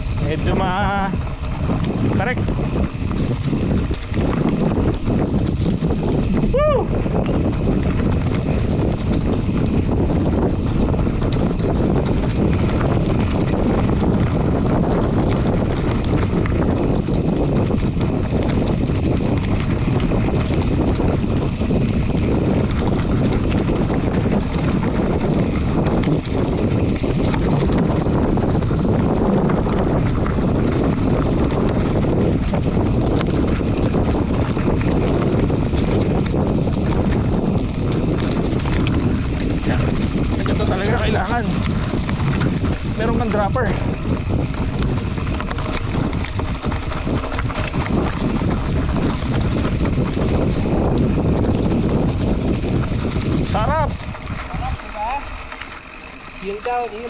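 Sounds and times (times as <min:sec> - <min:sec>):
bike tyres rumbling over dirt: 0:00.0 - 0:57.0
wind buffeting microphone: 0:00.0 - 0:57.0.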